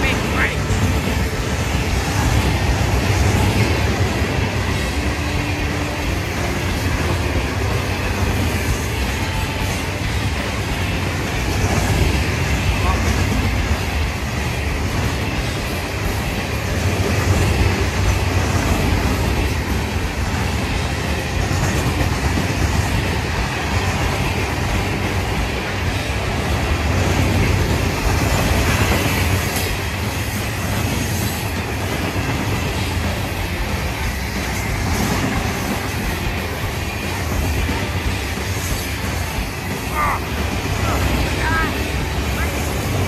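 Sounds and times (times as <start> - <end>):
steel wheels rumbling on rails: 0.0 - 43.0
wheels clacking over rail joints: 0.0 - 43.0.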